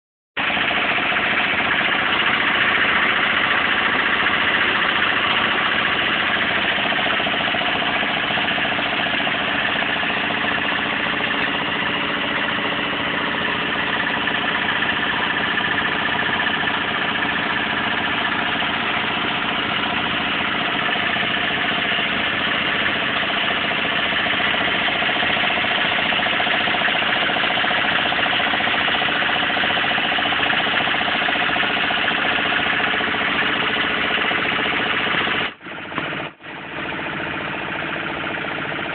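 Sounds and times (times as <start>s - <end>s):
compressor engine running: 0.4s - 38.9s.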